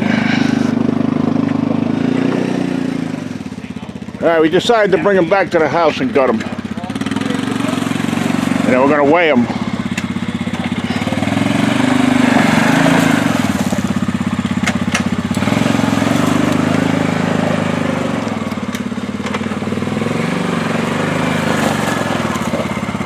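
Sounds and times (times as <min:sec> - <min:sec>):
quad engine running: 0:00.0 - 0:23.0.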